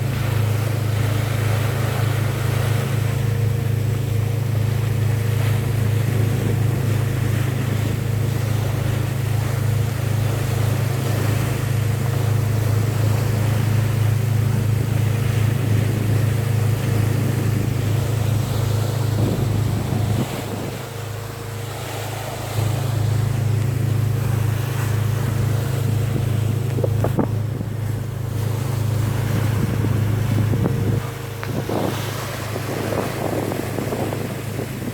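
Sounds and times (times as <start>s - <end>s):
boat engine droning: 0.0s - 34.9s
sea wash: 0.0s - 34.9s
wind on microphone: 0.0s - 34.9s.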